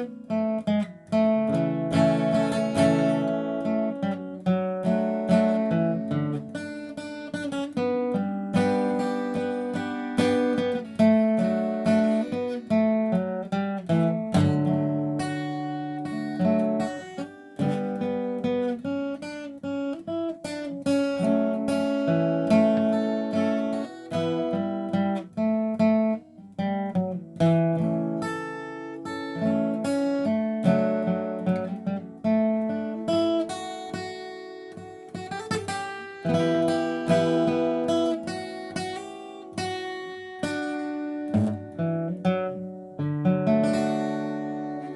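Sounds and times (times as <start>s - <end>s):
acoustic guitar melody: 0.0s - 44.9s.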